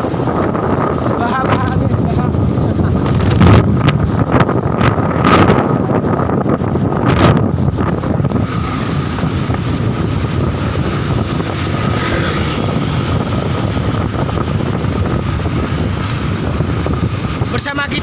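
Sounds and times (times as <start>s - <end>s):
motorcycle engine droning: 0.0s - 17.5s
road noise: 0.0s - 18.0s
wind buffeting microphone: 0.0s - 18.0s.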